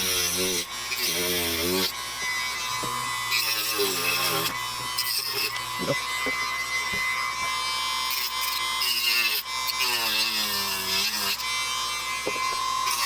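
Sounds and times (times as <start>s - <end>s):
rotary tool grinding metal: 0.0s - 13.0s.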